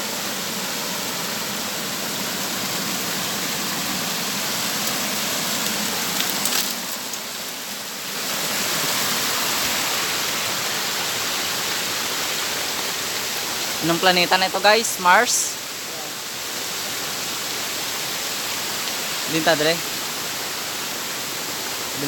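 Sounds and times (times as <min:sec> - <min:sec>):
rushing flowing water: 0:00.0 - 0:22.0.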